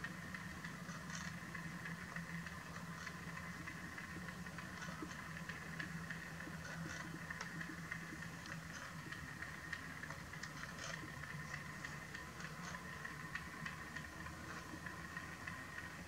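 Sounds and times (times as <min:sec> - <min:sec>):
drive ticking: 0:00.0 - 0:16.0.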